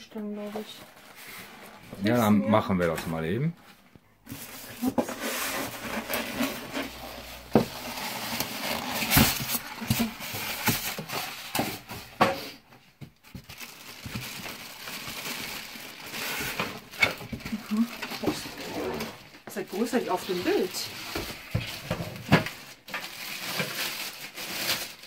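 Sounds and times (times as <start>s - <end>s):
cardboard and plastic rustling: 0.0s - 25.0s.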